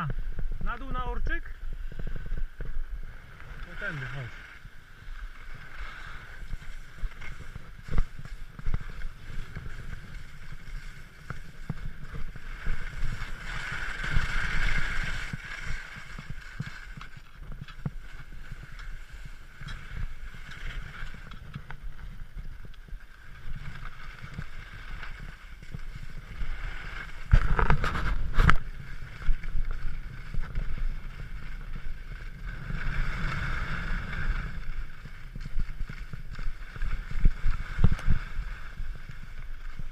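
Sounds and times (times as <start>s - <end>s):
skis scraping over snow: 0.0s - 39.9s.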